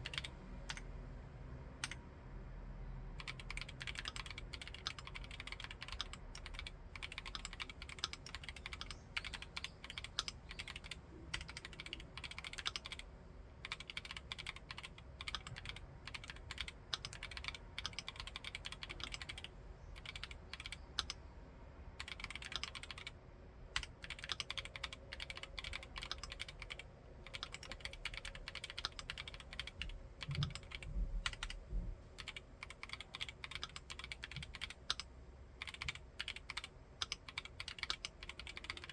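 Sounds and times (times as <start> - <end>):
mechanical keyboard typing: 0.0 - 0.9, 3.2 - 21.2, 22.0 - 23.2, 23.8 - 31.6, 32.2 - 38.9.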